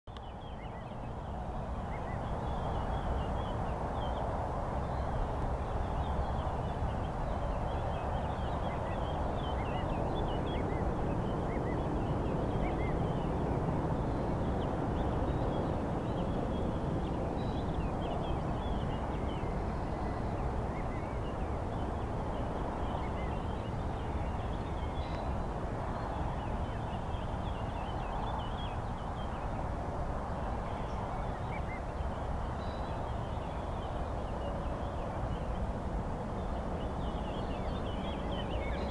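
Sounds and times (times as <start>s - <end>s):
steady rushing river: 0.3s - 38.9s.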